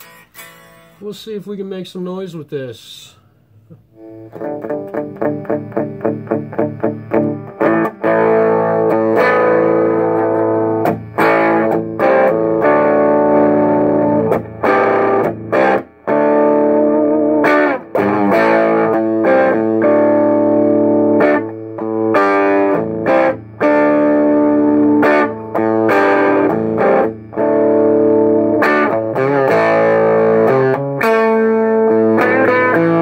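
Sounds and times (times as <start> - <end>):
distorted electric guitar strumming: 0.0 - 1.1, 3.7 - 33.0.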